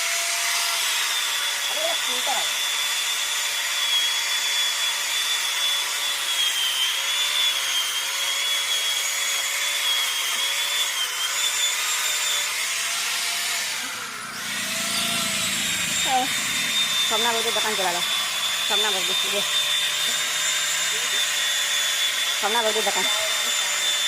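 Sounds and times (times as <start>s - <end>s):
power tool cutting wood: 0.0s - 24.0s.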